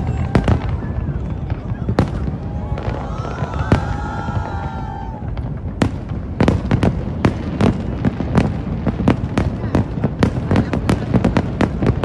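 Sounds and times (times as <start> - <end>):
fireworks bangs: 0.0 - 12.0
fireworks whistling: 0.0 - 12.0.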